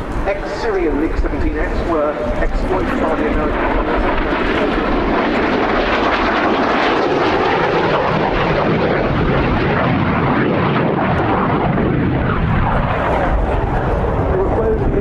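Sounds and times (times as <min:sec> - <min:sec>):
jet fighter flying past: 0:00.0 - 0:15.0.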